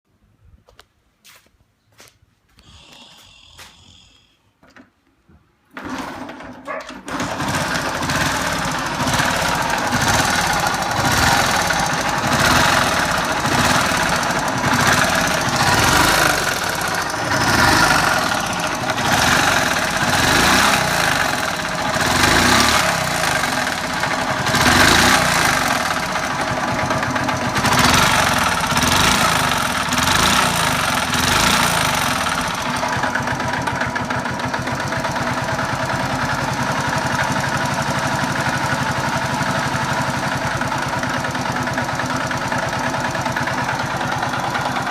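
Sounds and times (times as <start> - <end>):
small engine revving with rattle: 5.8 - 44.9.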